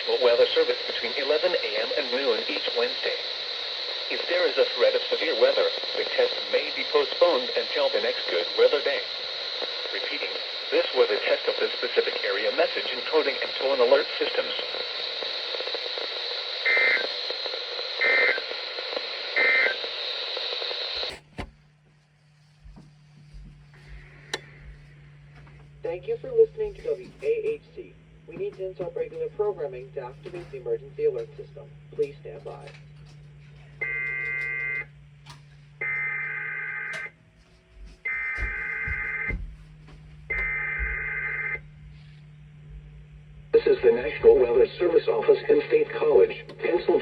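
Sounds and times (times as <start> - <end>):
radio hiss: 0.0 - 21.5, 23.2 - 37.1, 38.0 - 47.0
steady low hum: 0.0 - 47.0.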